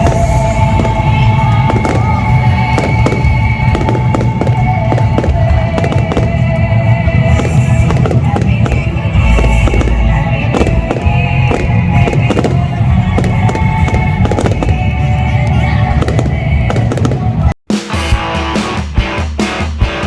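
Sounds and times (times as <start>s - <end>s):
fireworks bangs and booms: 0.0s - 17.5s
music playing: 0.0s - 20.0s.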